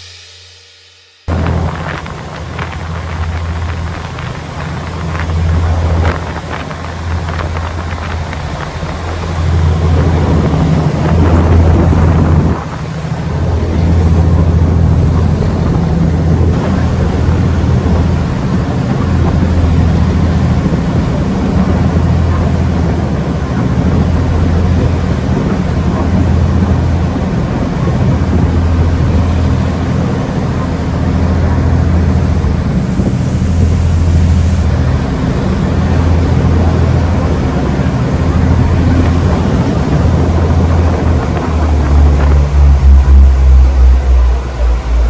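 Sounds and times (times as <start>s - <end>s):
ferry engine droning: 1.1s - 45.0s
wind noise on microphone: 1.3s - 45.0s.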